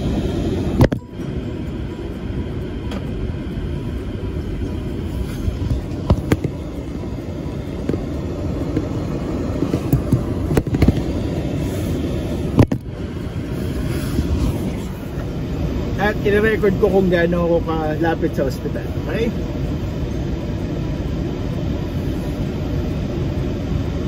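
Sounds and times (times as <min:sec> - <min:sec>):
low rumble of engine and tyres: 0:00.0 - 0:24.0.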